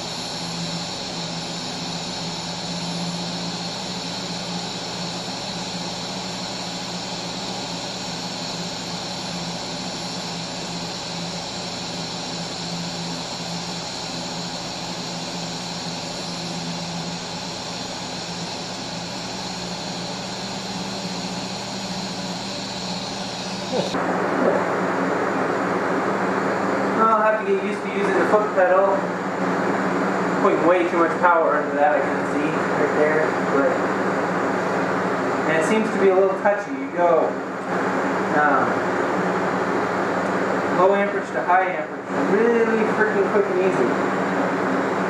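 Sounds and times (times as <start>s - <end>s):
welding arc hum and hiss: 0.0s - 45.0s.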